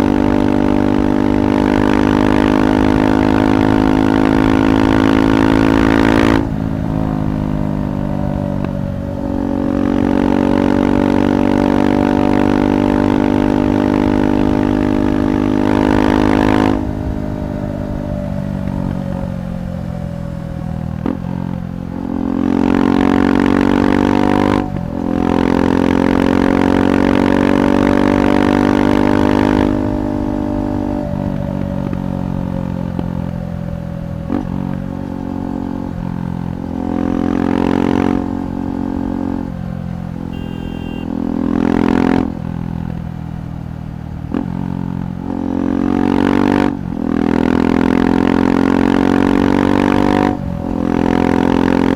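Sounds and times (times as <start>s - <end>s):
motorcycle engine while riding: 0.0s - 51.9s.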